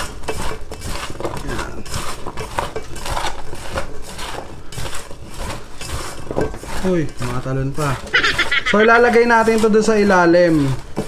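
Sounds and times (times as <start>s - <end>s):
vegetables rattling in metal bowl: 0.0s - 11.0s.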